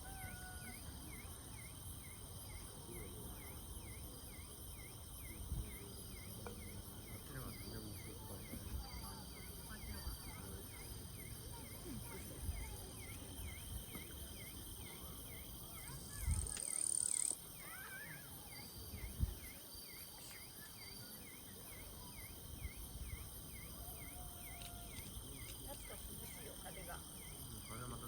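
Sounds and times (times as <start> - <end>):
insect chirping: 0.0 - 28.0
outdoor ambience: 0.0 - 28.0.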